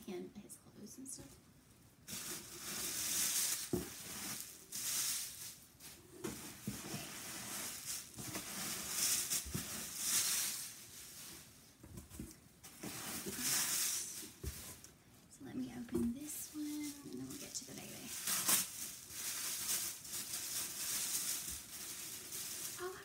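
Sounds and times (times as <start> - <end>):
packing wrap rustling: 2.0 - 15.0, 16.2 - 23.0.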